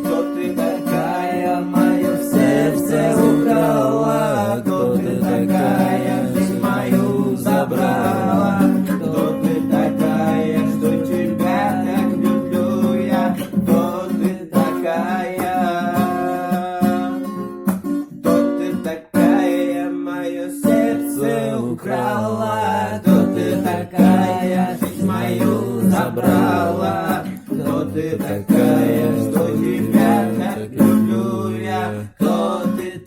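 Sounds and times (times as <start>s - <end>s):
acoustic guitar: 0.0s - 33.0s
person singing: 0.0s - 33.0s.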